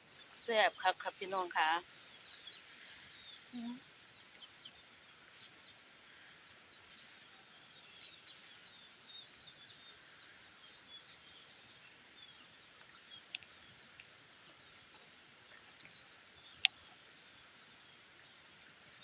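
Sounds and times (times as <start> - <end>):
background hiss: 0.0 - 19.0
small birds chirping: 0.0 - 19.0.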